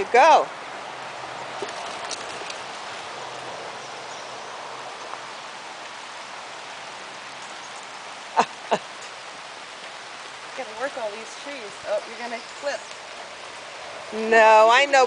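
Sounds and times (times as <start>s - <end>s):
light rain on grass and leaves: 0.0s - 15.0s.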